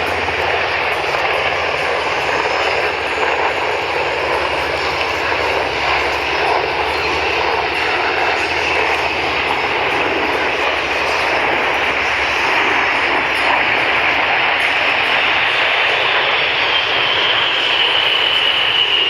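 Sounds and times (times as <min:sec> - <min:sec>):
airplane engine running: 0:00.0 - 0:19.0.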